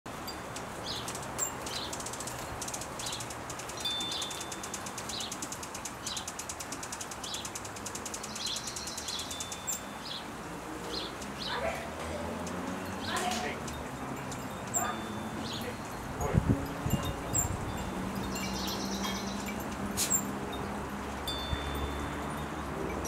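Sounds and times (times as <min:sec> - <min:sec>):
outdoor background noise: 0:00.1 - 0:23.0
small birds chirping: 0:00.3 - 0:23.0.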